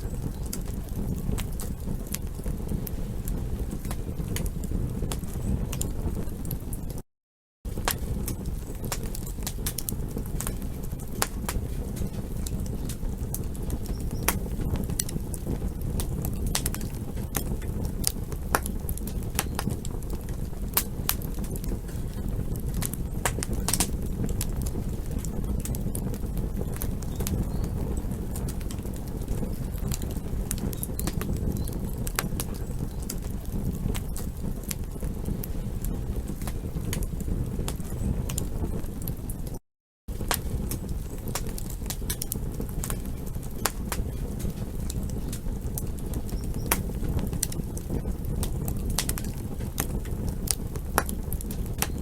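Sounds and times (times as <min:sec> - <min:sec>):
campfire crackling and popping: 0:00.0 - 0:07.0, 0:07.7 - 0:52.0
low fire rumble: 0:00.0 - 0:07.0, 0:07.6 - 0:52.0.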